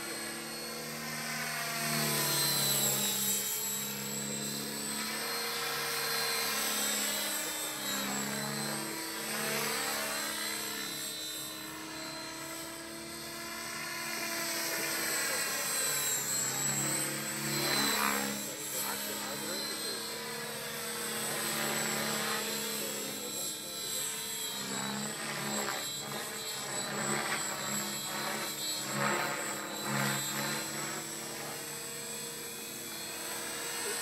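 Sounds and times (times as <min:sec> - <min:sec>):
model helicopter whining: 0:00.0 - 0:34.0.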